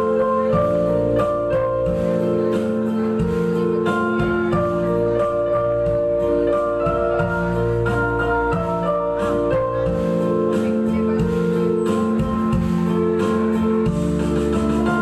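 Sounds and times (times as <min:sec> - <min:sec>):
keyboard chords and melody: 0:00.0 - 0:15.0.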